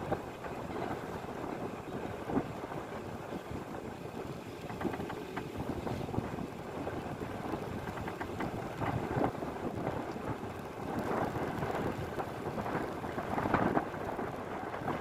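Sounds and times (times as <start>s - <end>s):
boat engine running low: 0.0s - 15.0s
wind buffeting microphone: 0.0s - 15.0s.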